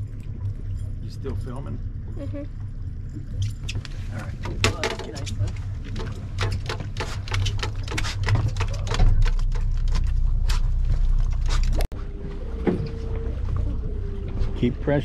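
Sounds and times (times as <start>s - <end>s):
boat motor rumble: 0.0s - 15.0s.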